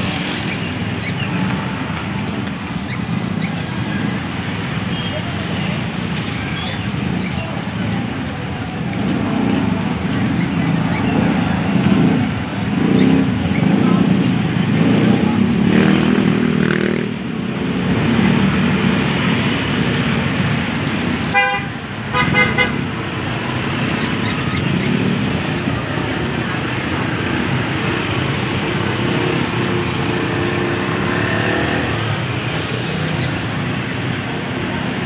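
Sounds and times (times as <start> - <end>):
motorcycles passing: 0.0 - 35.0.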